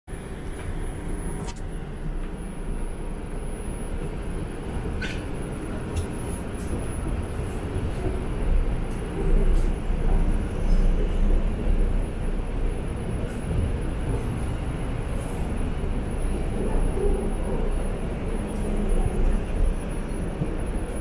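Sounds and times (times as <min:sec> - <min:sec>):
train wheels rumbling on track: 0:00.1 - 0:21.0.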